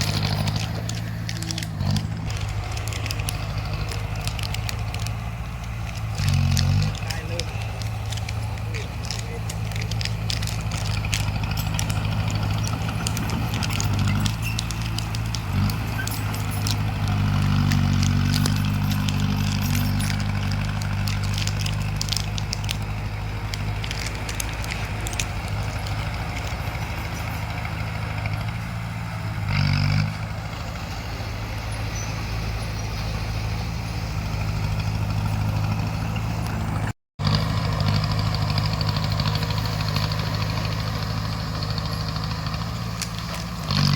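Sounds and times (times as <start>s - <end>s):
sharp clicks and crackles: 0.0s - 30.6s, 31.3s - 43.9s
bulldozer diesel engine: 0.0s - 43.9s.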